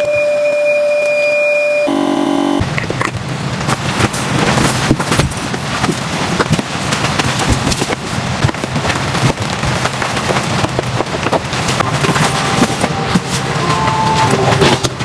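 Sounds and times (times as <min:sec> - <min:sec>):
dense crackling and popping: 0:02.6 - 0:15.0.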